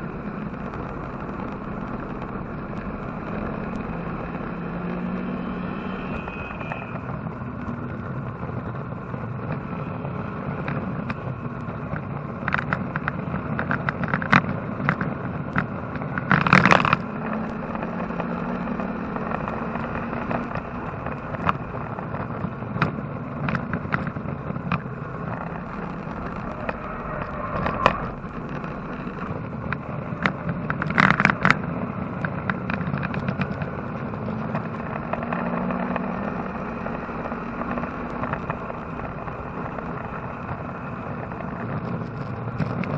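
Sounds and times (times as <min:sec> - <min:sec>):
race car engine and road noise: 0:00.0 - 0:42.9.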